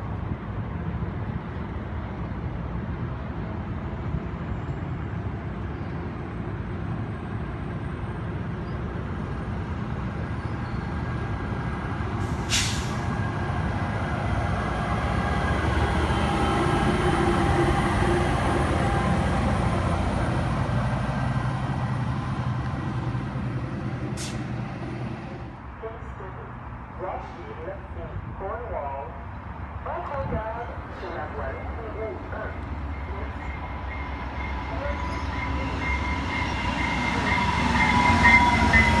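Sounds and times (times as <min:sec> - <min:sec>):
train wheels rumbling on rails: 0:00.0 - 0:26.2, 0:29.4 - 0:39.0
diesel locomotive passing: 0:00.0 - 0:39.0.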